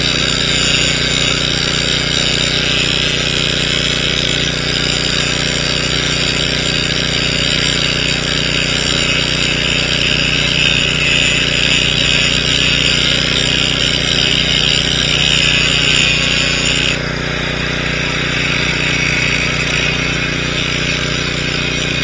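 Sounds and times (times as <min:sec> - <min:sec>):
arc welding crackle: 0:00.0 - 0:22.0
engine running: 0:00.0 - 0:22.0.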